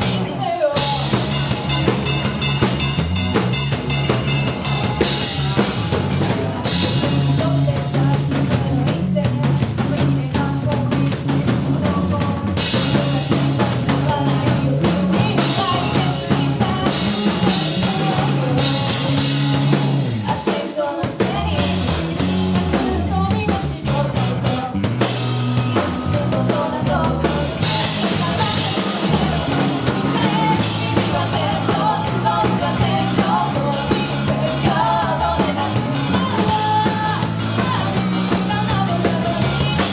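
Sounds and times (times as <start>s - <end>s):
bass line: 0.0s - 39.9s
drum kit playing a steady beat: 0.0s - 39.9s.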